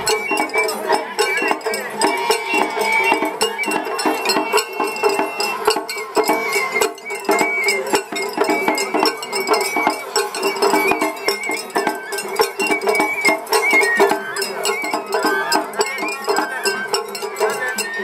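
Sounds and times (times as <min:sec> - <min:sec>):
bamboo flute melody: 0:00.0 - 0:18.0.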